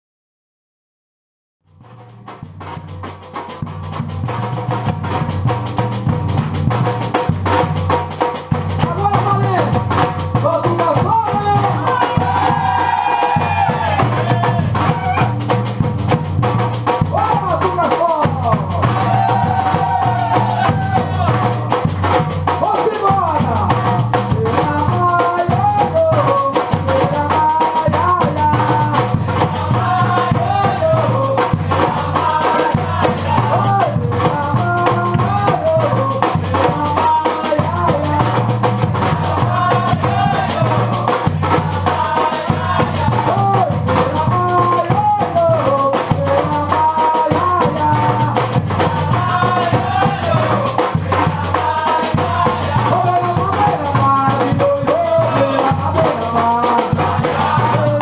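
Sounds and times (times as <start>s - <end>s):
drum-led percussion music: 1.7s - 58.0s.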